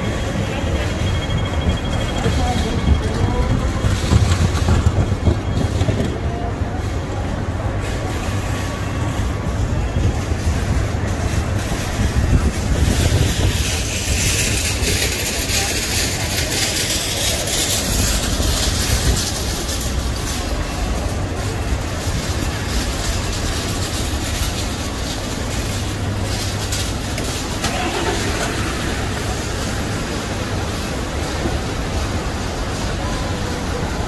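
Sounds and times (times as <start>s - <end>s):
vehicle engines rumbling: 0.0s - 34.0s.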